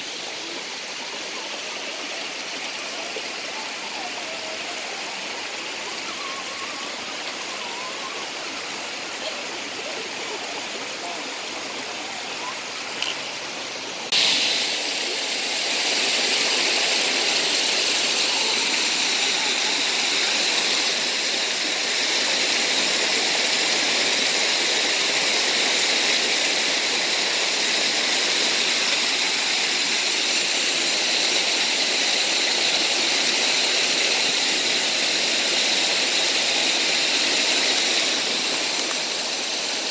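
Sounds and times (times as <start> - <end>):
creek water rushing over rock: 0.0 - 39.9.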